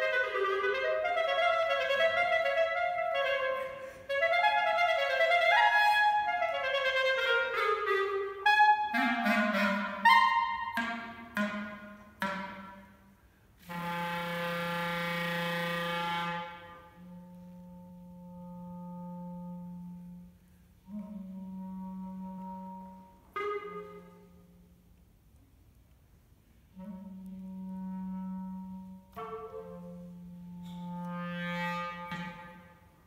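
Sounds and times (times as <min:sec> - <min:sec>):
solo clarinet playing: 0:00.0 - 0:25.0, 0:26.6 - 0:33.0.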